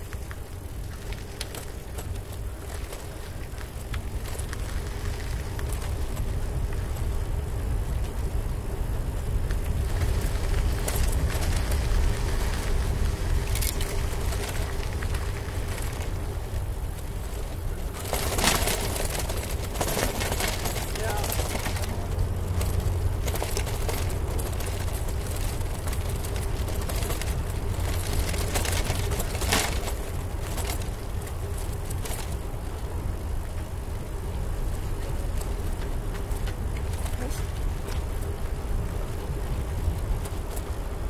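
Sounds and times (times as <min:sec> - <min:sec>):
bicycle rattling: 0:00.0 - 0:41.0
bicycle tyres crunching: 0:00.0 - 0:41.0
wind rumbling on microphone: 0:00.0 - 0:41.0.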